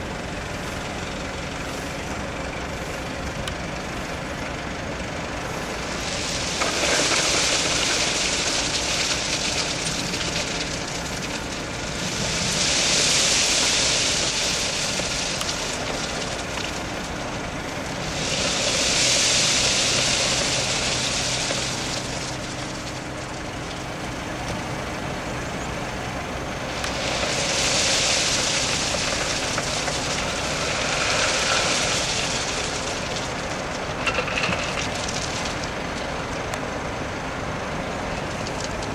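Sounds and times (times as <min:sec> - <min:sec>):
truck engine rumbling: 0:00.0 - 0:38.9.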